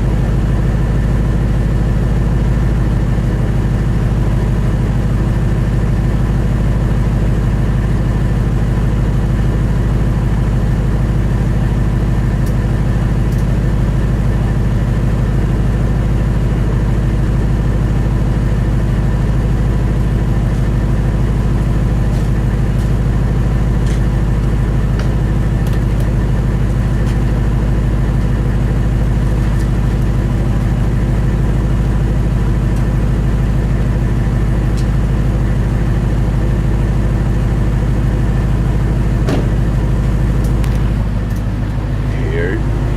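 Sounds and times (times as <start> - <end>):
truck engine idling loudly: 0.0 - 42.9.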